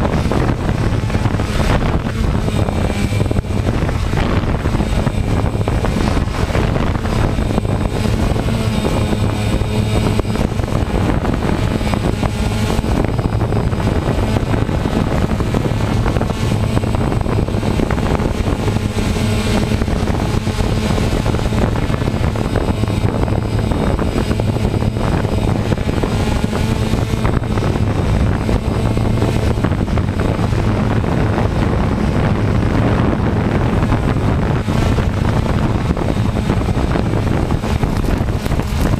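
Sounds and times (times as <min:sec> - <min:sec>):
drone propellers buzzing: 0:00.0 - 0:38.9
wind noise: 0:00.0 - 0:38.9.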